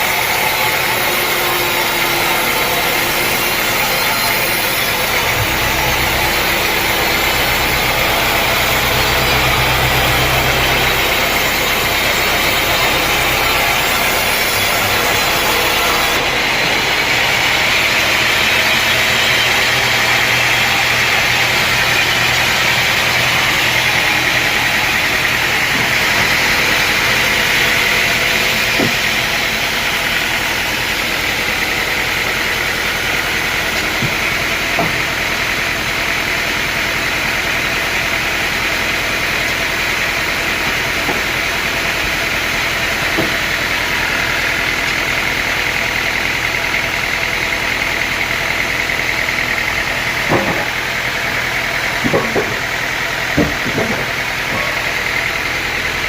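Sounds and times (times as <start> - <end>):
engine hum: 0.0 - 56.0
saw cutting timber: 0.0 - 56.0.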